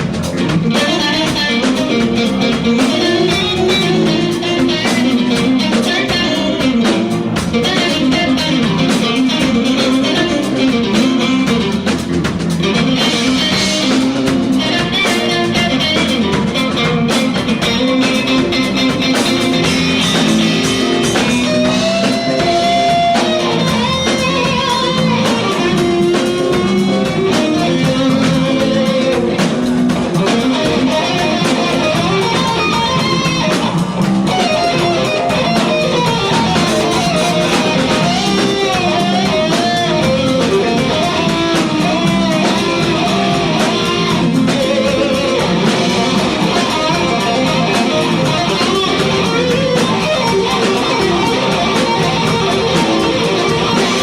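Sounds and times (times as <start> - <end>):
electric guitar: 0.0 - 54.0
live band playing: 0.0 - 54.0.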